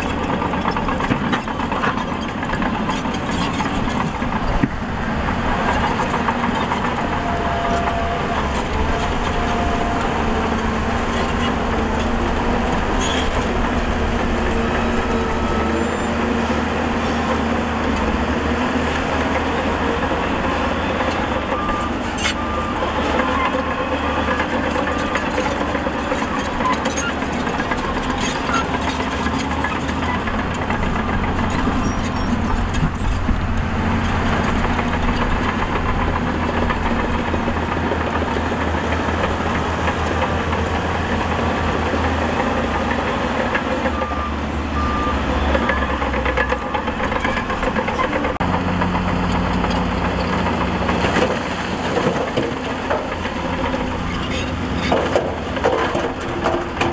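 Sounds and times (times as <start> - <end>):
heavy diesel engines running: 0.0 - 56.9.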